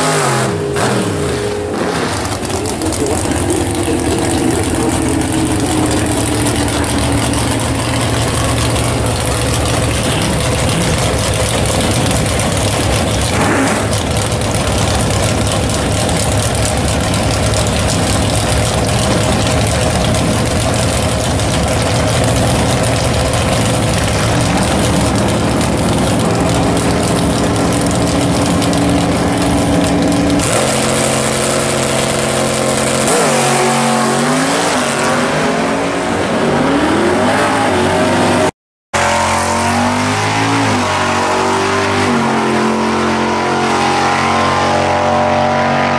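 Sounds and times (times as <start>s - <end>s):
drag car engine revving: 0.0s - 45.9s.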